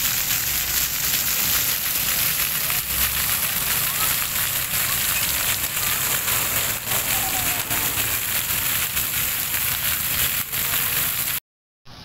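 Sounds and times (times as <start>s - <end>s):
fountain water splashing: 0.0s - 11.4s.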